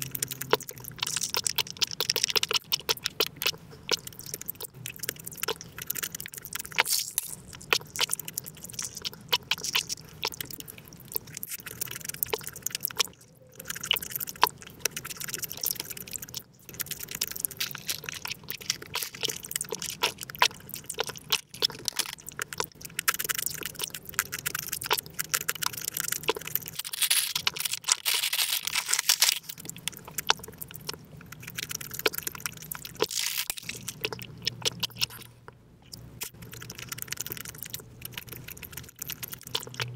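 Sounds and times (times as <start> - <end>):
chewing and wet mouth clicks: 0.0 - 39.9.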